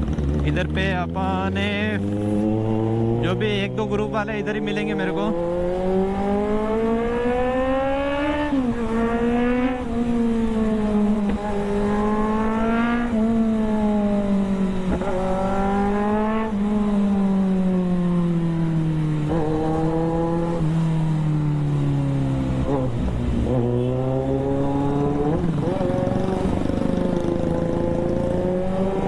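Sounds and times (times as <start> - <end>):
superbike engine revving: 0.0 - 29.0.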